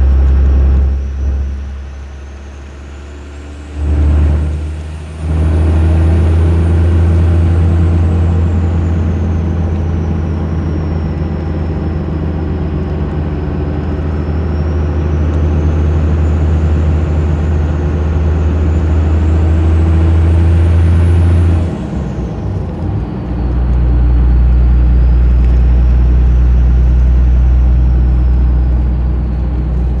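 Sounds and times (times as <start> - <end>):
turbo whistle: 0.0 - 21.7, 24.3 - 30.0
deep diesel exhaust drone: 0.0 - 30.0.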